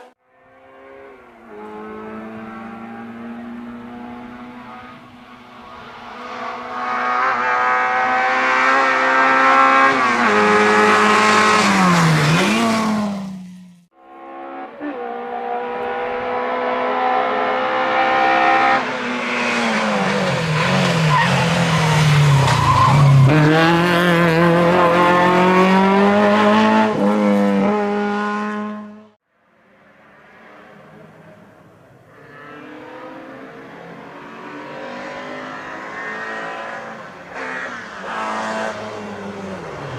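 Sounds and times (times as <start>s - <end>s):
rally car engines at high revs: 0.0s - 29.2s, 30.3s - 39.9s.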